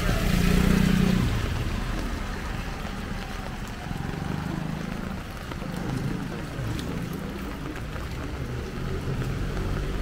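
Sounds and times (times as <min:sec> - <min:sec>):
light rain: 0:00.0 - 0:10.0
tyres hissing on wet road: 0:00.0 - 0:10.0.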